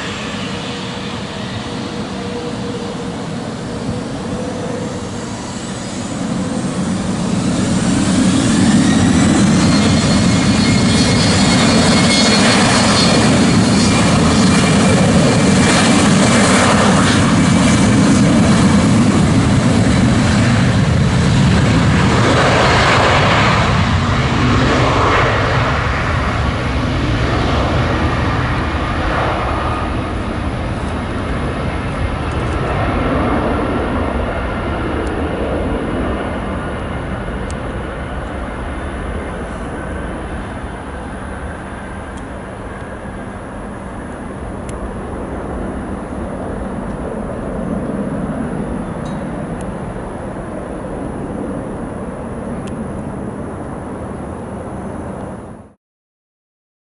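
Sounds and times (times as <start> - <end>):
jet engines spooling up: 0.0 - 55.7
loud steady jet noise: 0.0 - 55.8.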